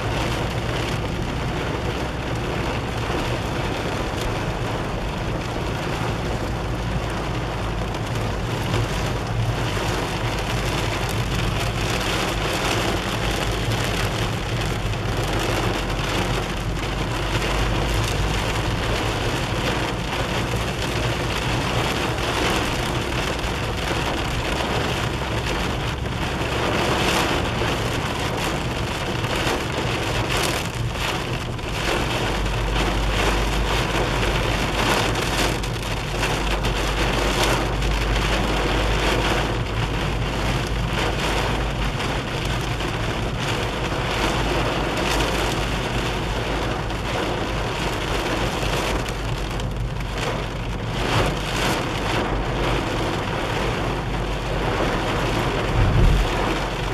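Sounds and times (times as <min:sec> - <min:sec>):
heavy rain on car windscreen: 0:00.0 - 0:56.9
low car rumble: 0:00.0 - 0:56.9.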